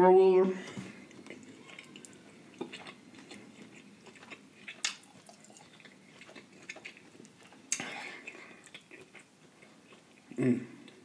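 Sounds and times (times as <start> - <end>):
soft chewing: 0.6 - 11.0.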